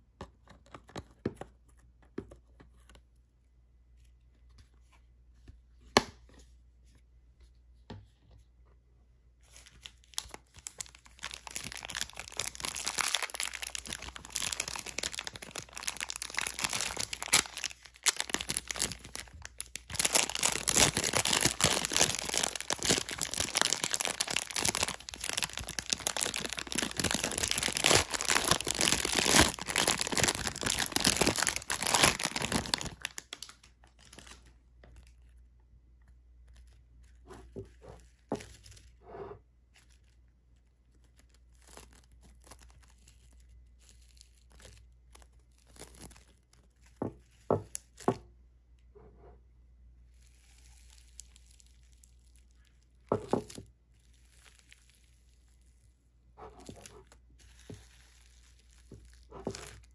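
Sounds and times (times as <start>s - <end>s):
plastic bag of foam beads crinkling: 9.4s - 39.0s, 39.6s - 48.1s, 50.0s - 59.9s.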